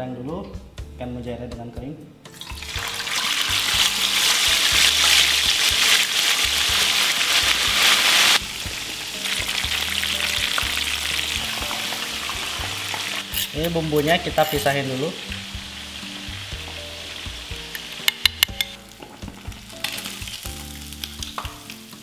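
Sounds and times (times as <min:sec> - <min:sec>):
fish sizzling in hot oil: 0:02.4 - 0:22.0.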